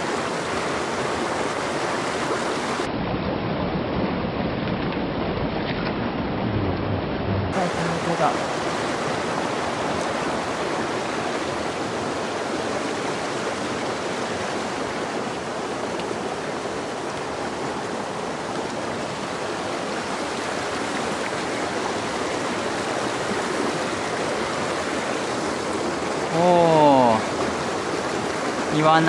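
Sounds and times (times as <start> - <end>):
stream rushing over rocks: 0.0 - 3.0, 4.1 - 29.0.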